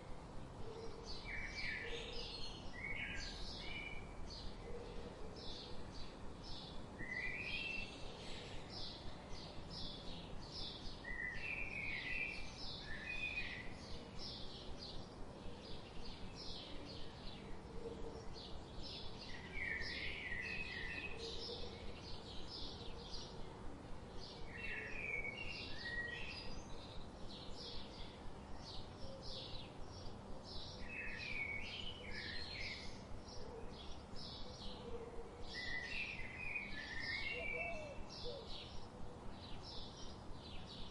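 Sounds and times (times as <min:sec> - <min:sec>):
songbirds chirping: 0:00.0 - 0:40.9
warbled bird song: 0:00.0 - 0:40.9.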